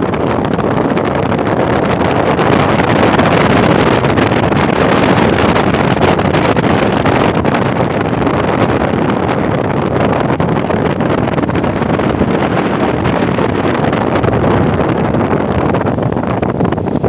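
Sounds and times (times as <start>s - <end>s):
car road noise: 0.0s - 17.0s
wind buffeting microphone: 0.0s - 17.0s
wind rush: 0.0s - 17.0s.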